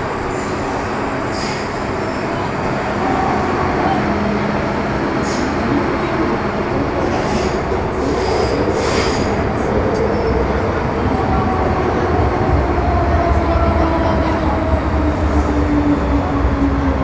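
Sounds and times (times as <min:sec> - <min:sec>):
train wheels rumbling in tunnel: 0:00.0 - 0:17.0.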